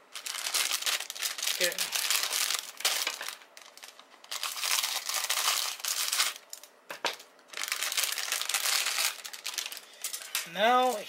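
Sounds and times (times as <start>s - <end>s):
plastic bag crinkling: 0.1s - 11.0s.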